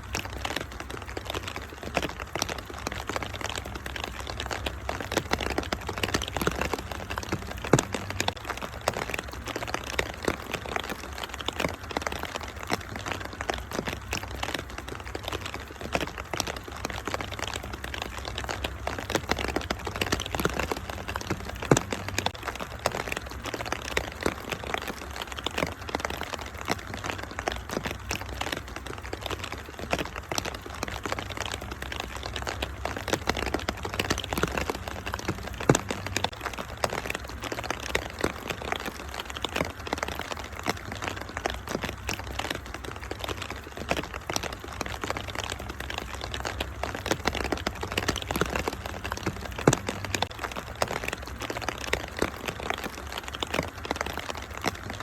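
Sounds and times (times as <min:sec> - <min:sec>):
rain hiss: 0:00.0 - 0:55.0
wood fire crackling: 0:00.0 - 0:55.0.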